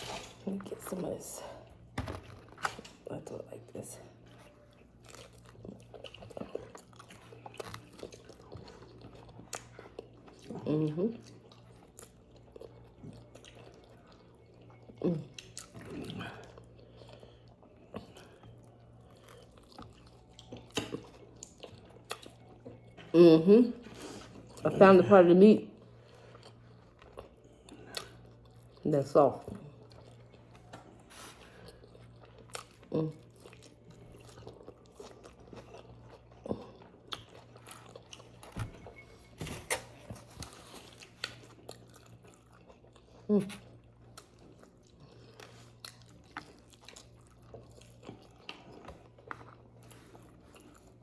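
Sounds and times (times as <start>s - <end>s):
person chewing food: 4.1s - 23.1s, 25.8s - 28.8s, 29.4s - 51.0s.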